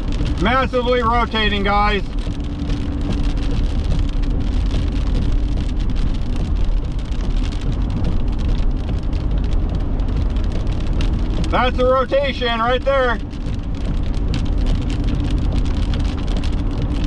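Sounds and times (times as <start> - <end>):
heavy rain ticking on car: 0.0 - 17.0
vehicle rumble: 0.0 - 17.0.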